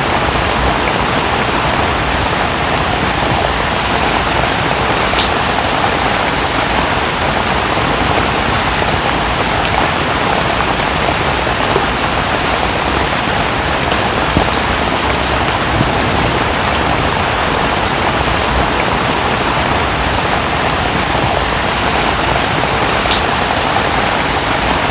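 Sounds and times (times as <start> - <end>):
steady rainfall: 0.0 - 24.9
sharp raindrop ticks: 0.1 - 7.5, 8.2 - 24.9.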